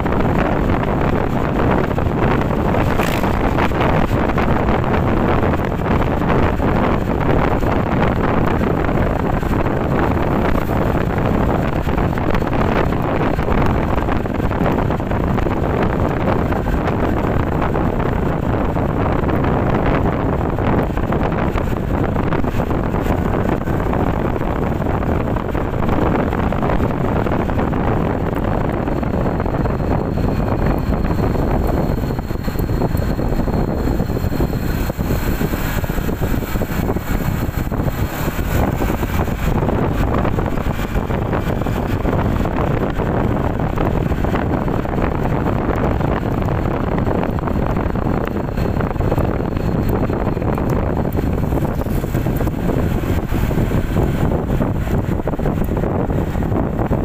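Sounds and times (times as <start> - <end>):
motorcycle engine drone: 0.0 - 57.0
wind buffeting microphone: 0.0 - 57.0
tyres on road: 0.1 - 48.4.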